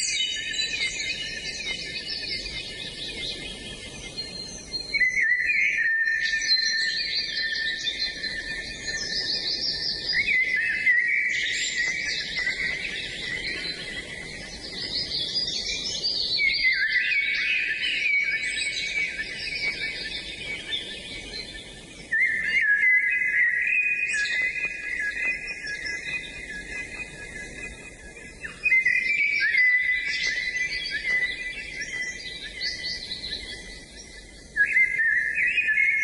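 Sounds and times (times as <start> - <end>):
songbirds chirping and trilling: 0.0 - 36.0.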